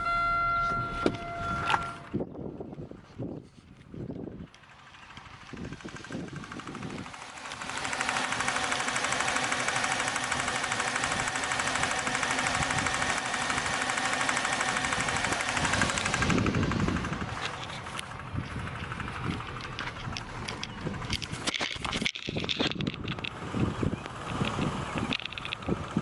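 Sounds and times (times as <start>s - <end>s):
car engine rapid knocking: 4.4s - 26.0s.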